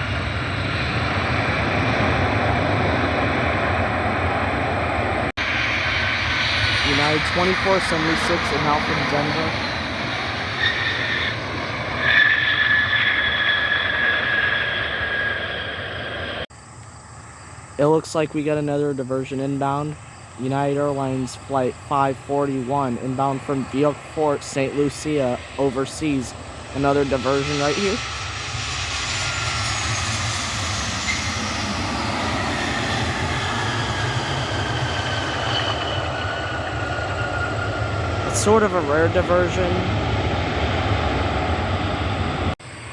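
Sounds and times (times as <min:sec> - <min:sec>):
jet engines rushing and whining: 0:00.0 - 0:42.9.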